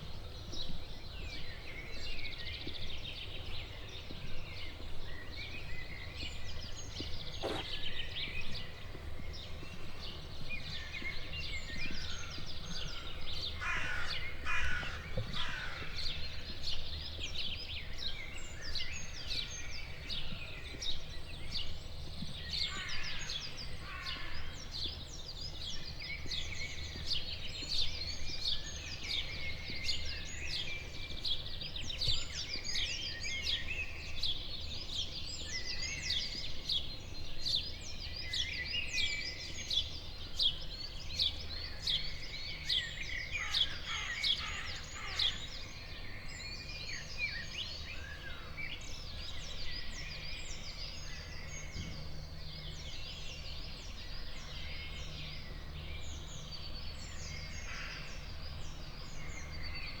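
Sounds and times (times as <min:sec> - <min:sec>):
small birds chirping and twittering: 0:00.0 - 1:00.0.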